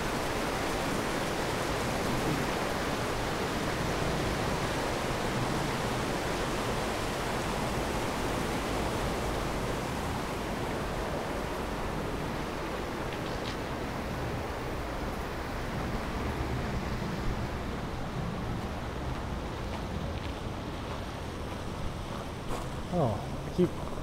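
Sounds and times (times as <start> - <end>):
creek rushing over rocks: 0.0 - 24.0.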